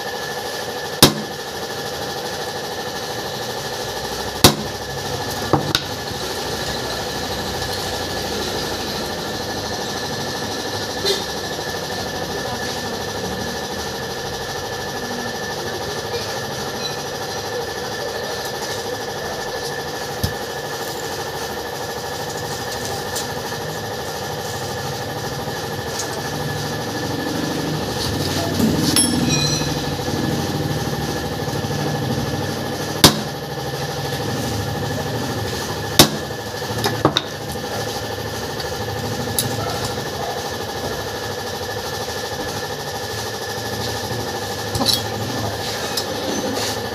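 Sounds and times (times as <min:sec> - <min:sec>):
steady motor hum: 0:00.0 - 0:46.9.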